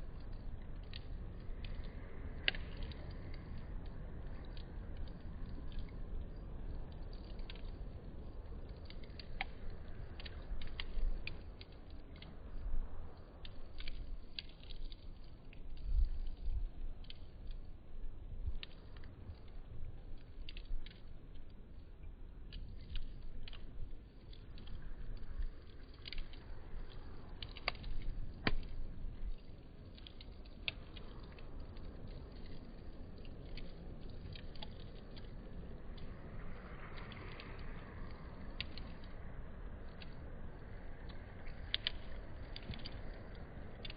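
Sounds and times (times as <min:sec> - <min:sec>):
campfire crackling: 0:00.0 - 0:43.9
low steady rumble: 0:00.0 - 0:43.9.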